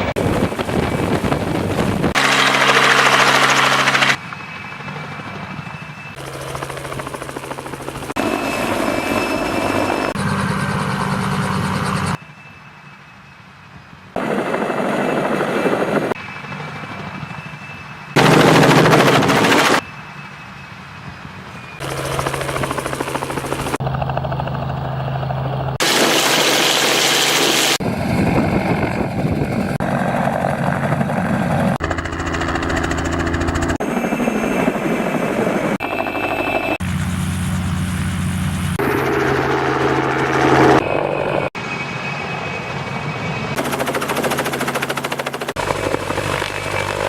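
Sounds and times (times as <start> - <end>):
helicopter rotor and engine: 0.0 - 12.9, 13.7 - 20.4, 21.1 - 47.0.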